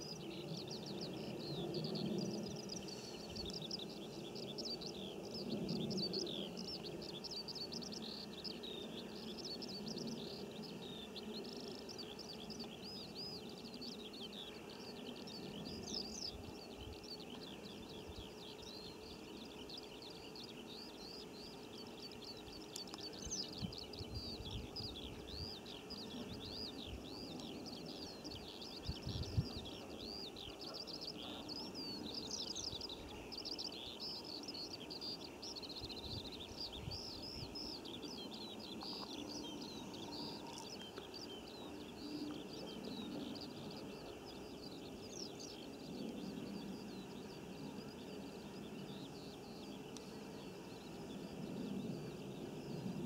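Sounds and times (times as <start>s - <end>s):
songbird twittering: 0.0s - 53.0s.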